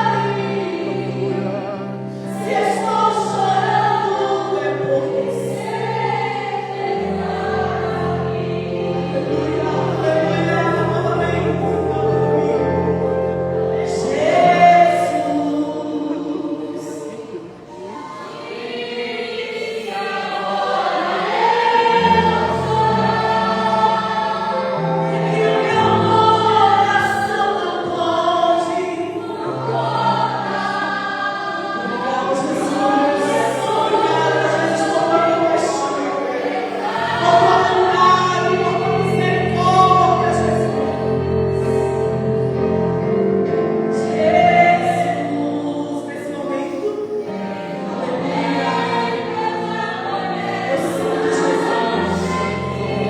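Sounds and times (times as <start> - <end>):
choir singing worship music: 0.0 - 53.0.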